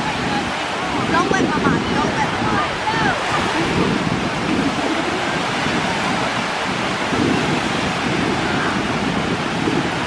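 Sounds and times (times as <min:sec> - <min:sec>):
waves breaking on shore: 0:00.0 - 0:10.0
wind buffeting microphone: 0:00.0 - 0:10.0.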